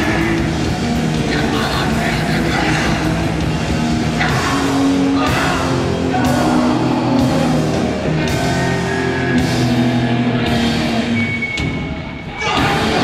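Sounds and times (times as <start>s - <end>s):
punk band playing live: 0.0s - 13.0s.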